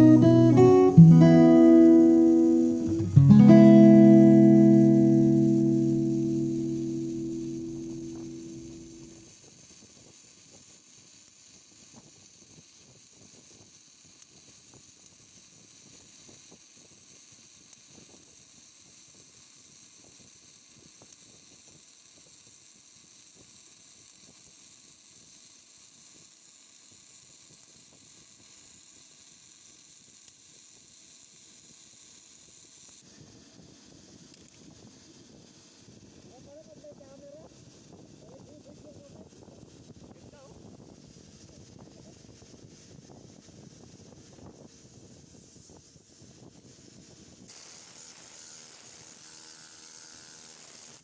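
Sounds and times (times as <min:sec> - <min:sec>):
welding arc sizzling crackle: 0:00.0 - 0:00.7, 0:04.1 - 0:51.0.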